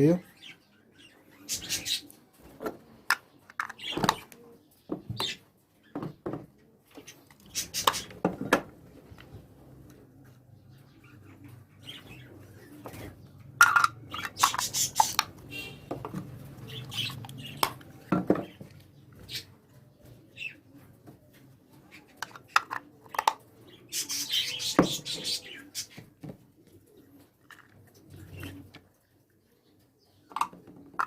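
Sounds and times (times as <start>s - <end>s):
birds chirping and squawking: 0.0s - 31.0s.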